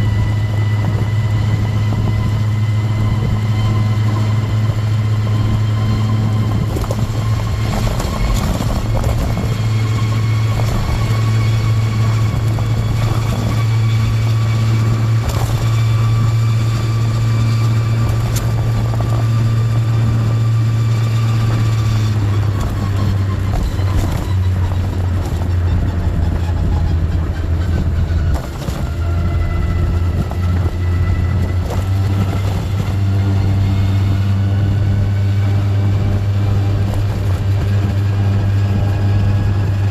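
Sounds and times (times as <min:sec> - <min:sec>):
low buzzing drone: 0:00.0 - 0:39.9
scooter engine: 0:00.0 - 0:39.9.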